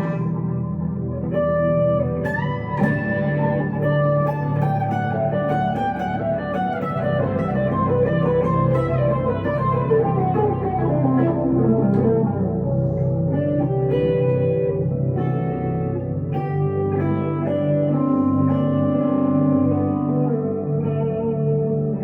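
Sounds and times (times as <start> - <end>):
electric guitar lead melody: 0.0 - 22.0.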